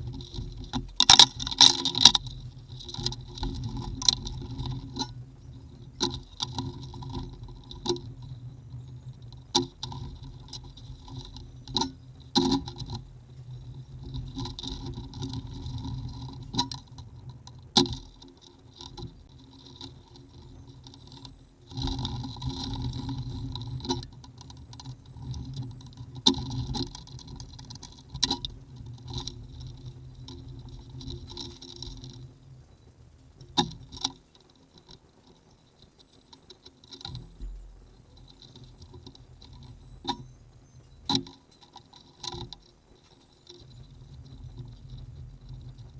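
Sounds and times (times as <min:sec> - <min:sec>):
hum: 0:00.0 - 0:45.9.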